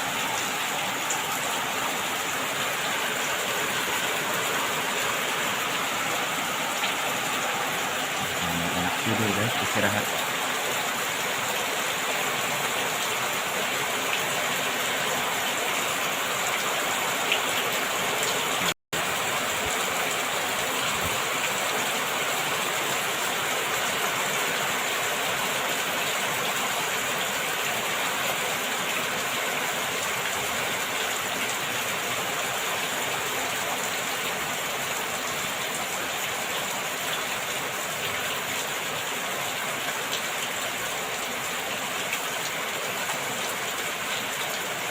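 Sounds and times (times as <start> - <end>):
rain falling steadily: 0.0 - 44.9.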